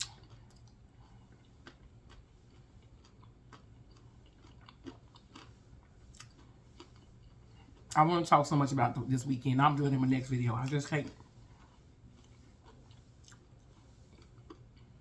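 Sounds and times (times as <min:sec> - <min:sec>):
faint chewing: 0:00.0 - 0:08.1, 0:10.0 - 0:15.0.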